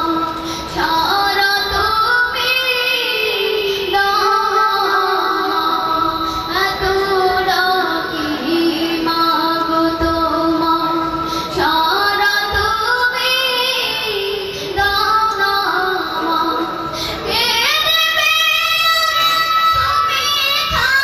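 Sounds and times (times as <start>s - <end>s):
boy singing into a microphone: 0.0s - 21.0s.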